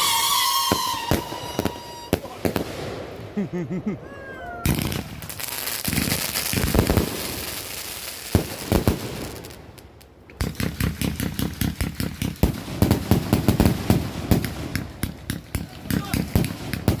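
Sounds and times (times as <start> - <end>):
firework hissing and crackling: 0.0 - 3.2, 4.7 - 17.0
rapid sharp firework cracks: 0.0 - 3.2, 4.7 - 17.0.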